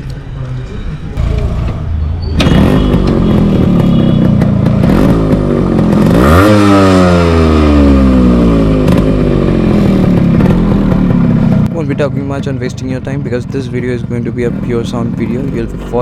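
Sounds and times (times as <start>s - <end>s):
motorcycle engine revving: 1.1s - 16.0s.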